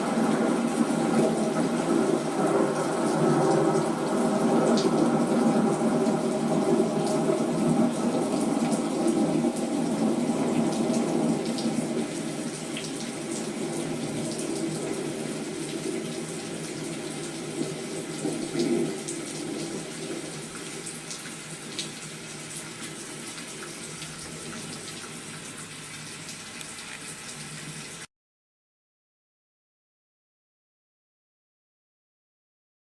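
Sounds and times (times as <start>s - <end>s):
steady rain falling: 0.0s - 28.1s.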